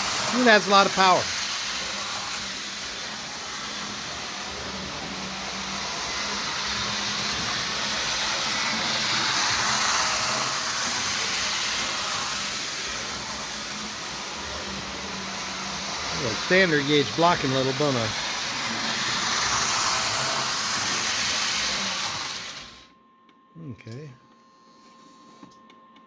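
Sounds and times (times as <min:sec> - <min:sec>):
toy train motor and wheels whirring: 0:00.0 - 0:22.9.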